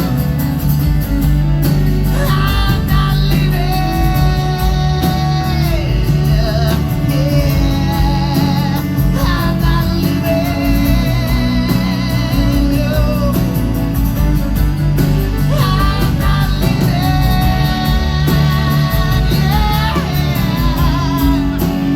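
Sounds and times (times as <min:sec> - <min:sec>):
live rock band playing: 0:00.0 - 0:21.9.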